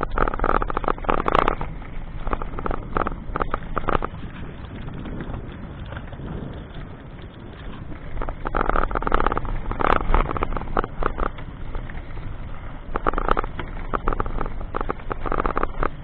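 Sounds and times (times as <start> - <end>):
vehicle road rumble and rattling: 0.0 - 16.0.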